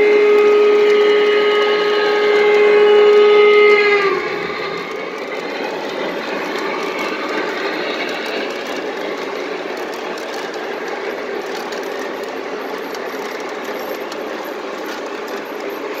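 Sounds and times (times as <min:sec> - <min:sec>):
model train cars rattling on track: 0:00.0 - 0:16.0
wheels clicking over rail joints: 0:00.0 - 0:16.0.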